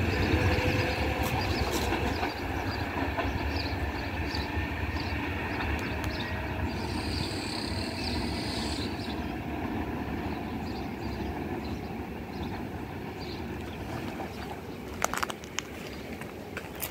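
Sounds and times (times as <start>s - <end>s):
passenger train rumbling: 0.0s - 16.9s.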